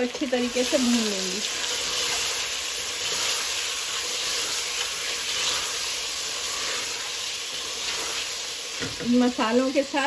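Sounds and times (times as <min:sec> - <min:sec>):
meat sizzling in hot oil: 0:00.0 - 0:10.0
wooden spatula stirring: 0:00.7 - 0:09.4.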